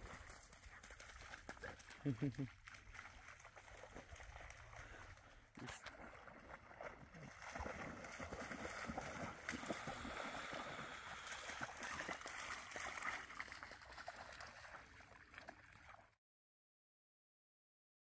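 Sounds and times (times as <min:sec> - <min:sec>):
dog splashing through water: 0:00.0 - 0:16.2.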